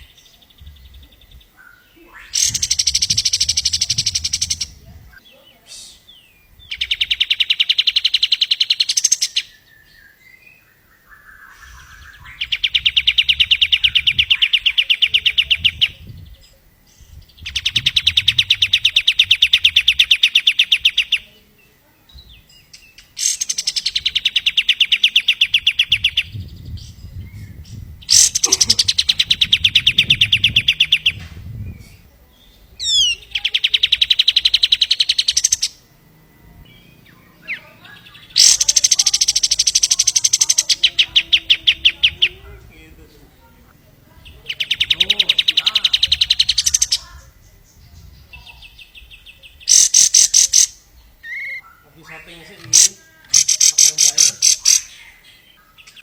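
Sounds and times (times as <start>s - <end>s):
bird singing rattling trill: 0.0s - 56.0s.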